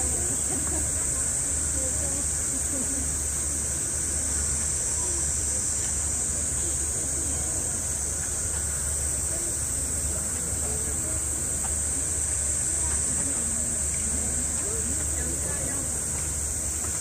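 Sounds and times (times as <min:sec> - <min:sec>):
distant voices murmuring: 0:00.0 - 0:17.0
high-pitched hiss: 0:00.0 - 0:17.0.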